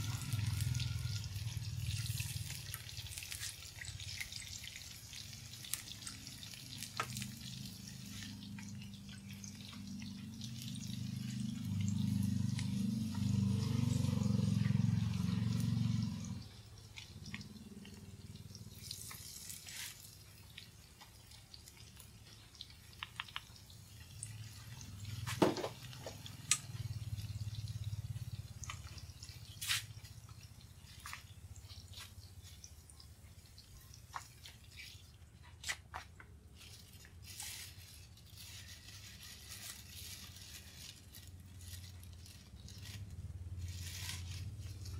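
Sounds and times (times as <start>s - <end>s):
food deep-frying in oil: 0.0s - 44.9s.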